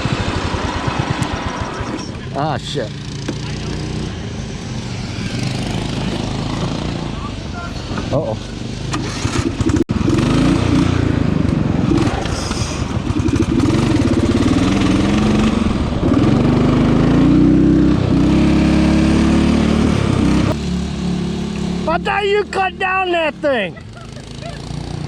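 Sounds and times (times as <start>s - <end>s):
riding lawn mower engine: 0.0s - 25.0s.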